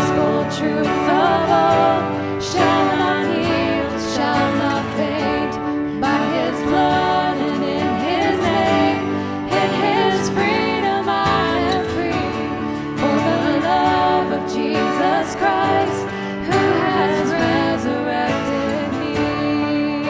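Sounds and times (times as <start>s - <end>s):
band playing worship music: 0.0s - 20.0s
person singing: 0.0s - 20.0s.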